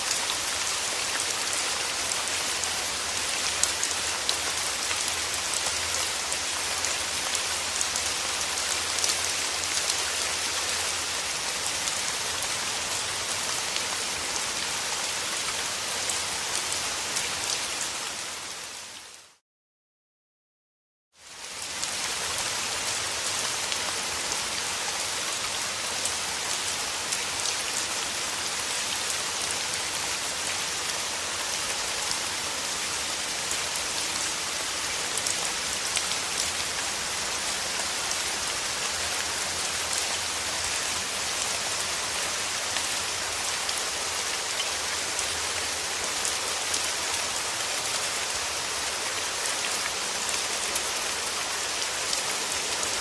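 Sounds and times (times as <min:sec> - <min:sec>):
rain falling: 0:00.0 - 0:19.4, 0:21.2 - 0:53.0.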